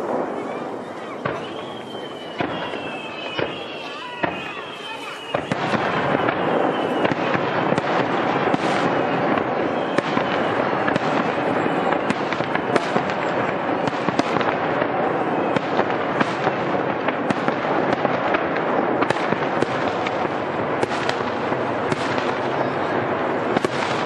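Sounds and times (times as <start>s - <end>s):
fireworks crackling: 0.0s - 24.0s
sharp firework cracks: 0.0s - 24.0s.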